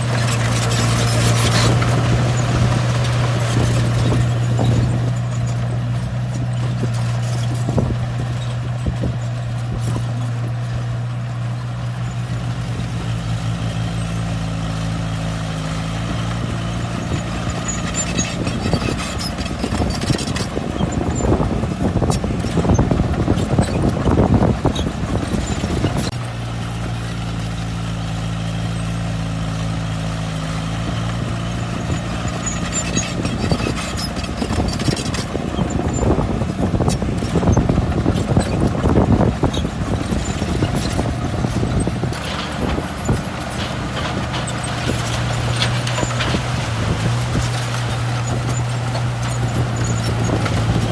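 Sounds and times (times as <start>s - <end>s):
heavy machinery diesel engine: 0.0s - 50.9s
rattling and scraping: 0.0s - 50.9s.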